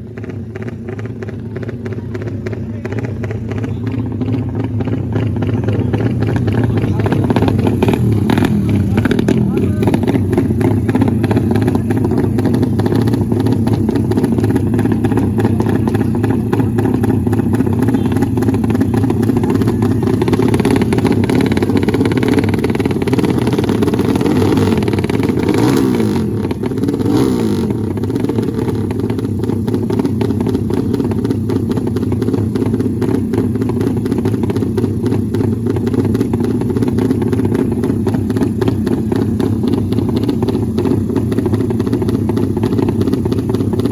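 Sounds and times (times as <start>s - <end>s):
motorcycle engines running loudly: 0.0s - 43.9s.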